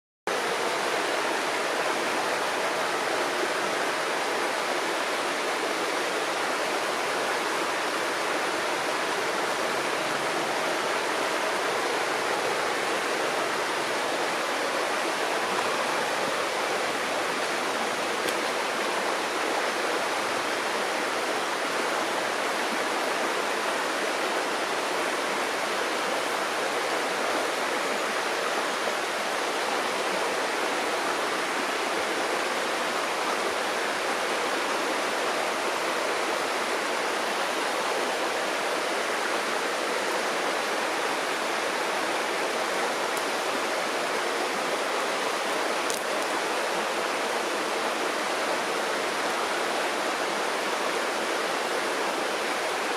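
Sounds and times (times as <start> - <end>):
river water rushing: 0.3 - 52.9.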